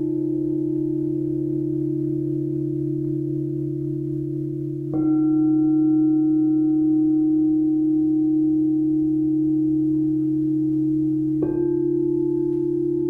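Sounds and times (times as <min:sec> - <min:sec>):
singing bowl struck with mallet: 0:00.0 - 0:13.0
singing bowls humming: 0:00.0 - 0:13.0.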